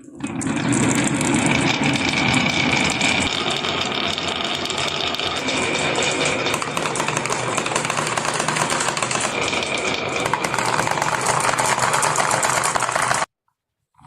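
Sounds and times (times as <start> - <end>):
marbles rattling down wooden run: 0.0 - 13.3.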